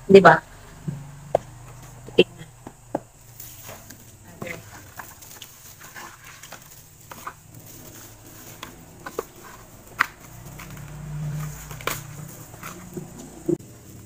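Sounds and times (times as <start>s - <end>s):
low hum: 0.0s - 5.7s, 6.3s - 13.6s.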